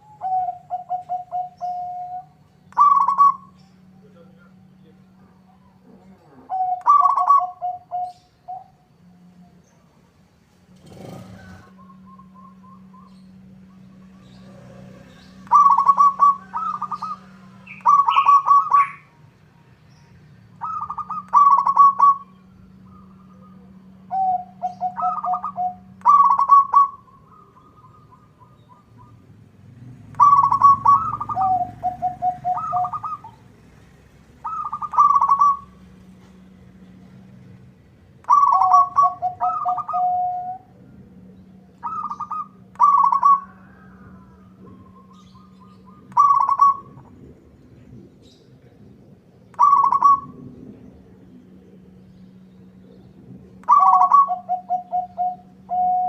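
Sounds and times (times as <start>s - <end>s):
dove cooing: 0.0s - 9.6s, 10.7s - 19.2s, 20.6s - 29.4s, 30.0s - 37.4s, 38.2s - 47.2s, 49.5s - 51.3s, 53.0s - 56.0s
faint low hum: 0.0s - 56.0s
low rolling trill: 0.0s - 56.0s.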